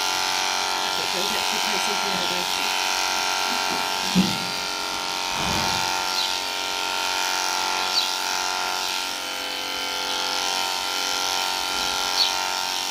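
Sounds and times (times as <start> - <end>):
electric clippers buzzing: 0.0 - 12.9.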